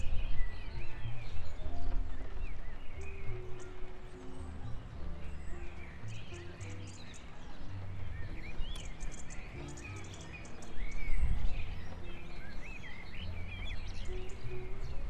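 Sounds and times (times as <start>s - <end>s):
birds chirping and twittering: 0.0s - 15.0s
soft low held music notes: 0.0s - 15.0s.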